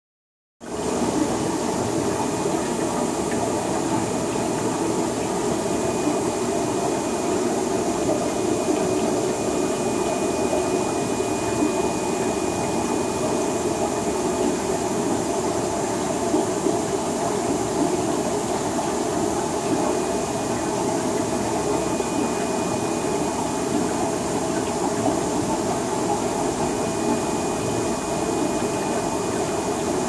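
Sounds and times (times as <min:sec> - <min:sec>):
aquarium filter water rushing: 0:00.6 - 0:30.0.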